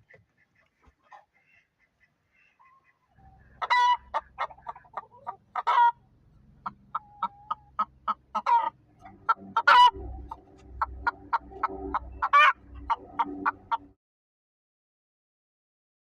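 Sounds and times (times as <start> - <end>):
hen clucking and squawking: 0.0 - 14.0.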